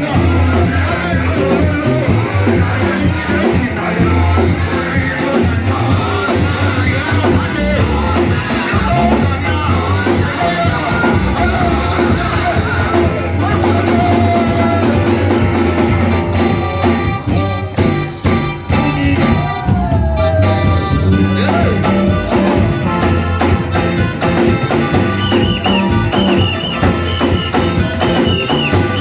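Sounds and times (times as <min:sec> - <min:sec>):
bass: 0:00.0 - 0:29.0
drum kit: 0:00.0 - 0:29.0
guitar: 0:00.0 - 0:29.0
voices singing: 0:00.0 - 0:29.0.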